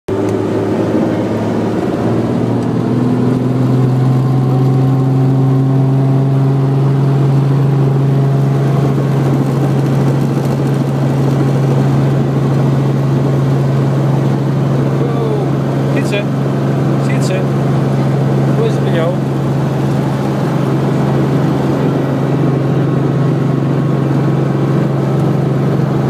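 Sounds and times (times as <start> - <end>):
helicopter engine and rotor drone: 0.1 - 26.0.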